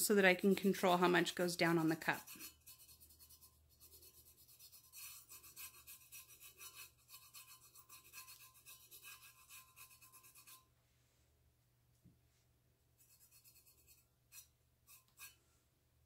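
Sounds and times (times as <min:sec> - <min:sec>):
fingertips rubbing textured metal: 0:00.0 - 0:10.7, 0:13.0 - 0:15.4.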